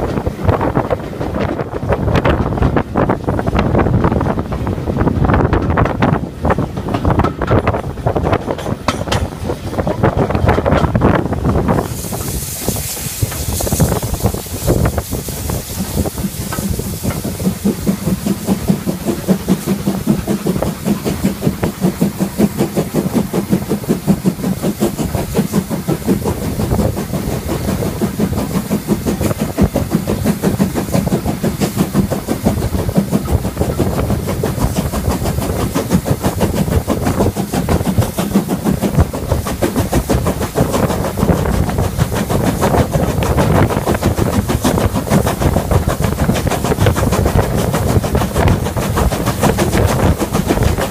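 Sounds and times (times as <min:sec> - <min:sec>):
steam locomotive exhaust beating: 0:00.0 - 0:50.9
wheels clattering on rail: 0:00.0 - 0:50.9.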